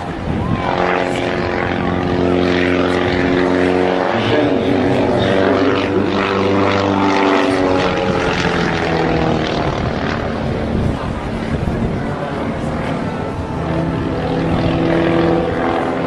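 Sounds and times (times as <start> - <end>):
propeller airplane engine droning: 0.0 - 16.0.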